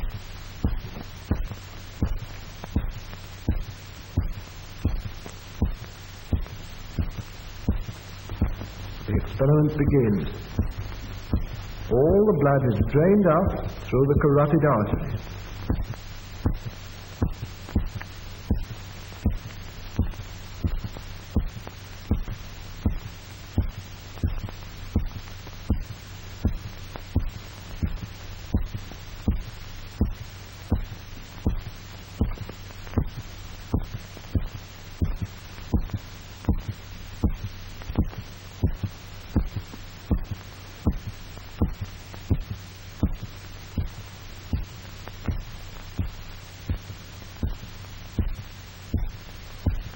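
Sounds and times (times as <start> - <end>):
amplified heartbeat thumps: 0.0 - 49.9
low hum: 0.0 - 49.9.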